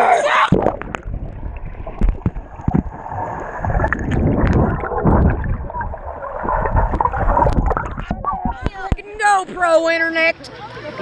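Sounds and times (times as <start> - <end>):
water sloshing and gurgling: 0.0 - 9.9.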